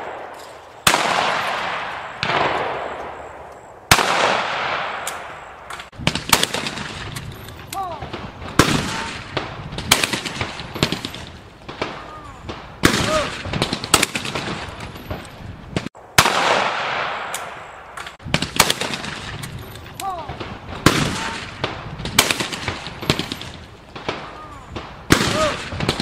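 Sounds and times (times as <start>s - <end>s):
shotgun shots with echo: 0.0s - 7.3s, 8.0s - 14.7s, 15.8s - 19.4s, 20.2s - 26.0s.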